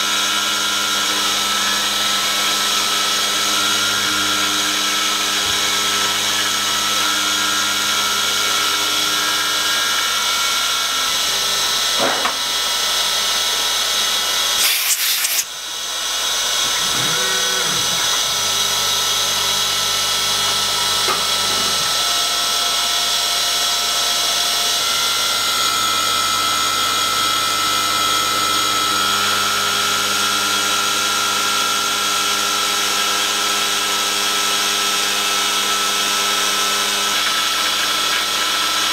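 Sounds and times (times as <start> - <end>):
milling machine spindle whine: 0.0 - 38.9.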